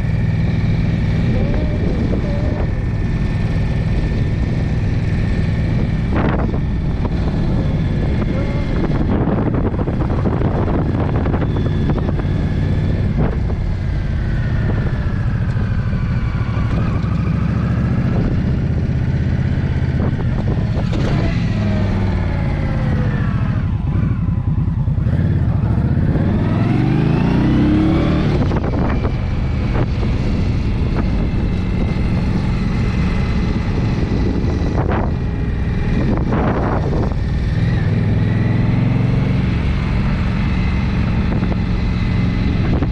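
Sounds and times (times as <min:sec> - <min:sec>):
motorcycle engine revving: 0:00.0 - 0:42.9
road noise: 0:00.0 - 0:42.9
wind noise: 0:00.0 - 0:42.9.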